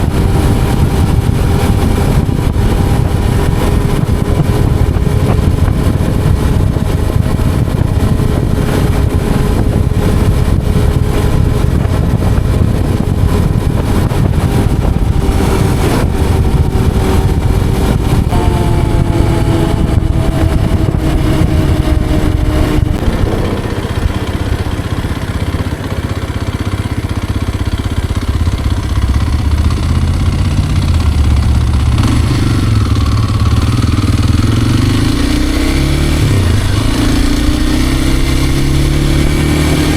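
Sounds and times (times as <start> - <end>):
dirt bike engine running: 0.0 - 39.9
wind noise on microphone: 0.0 - 39.9.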